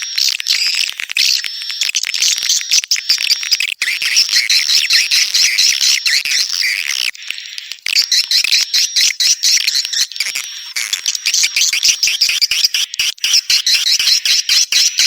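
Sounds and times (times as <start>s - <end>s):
swiftlets twittering: 2.6s - 15.0s.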